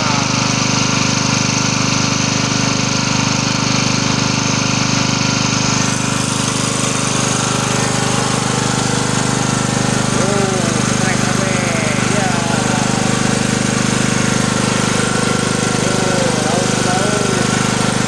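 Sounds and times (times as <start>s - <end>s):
small engine droning: 0.0s - 18.0s.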